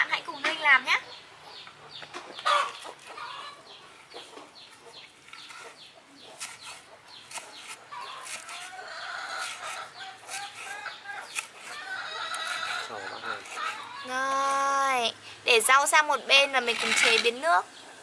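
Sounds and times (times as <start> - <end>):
chickens clucking: 0.2 - 14.7.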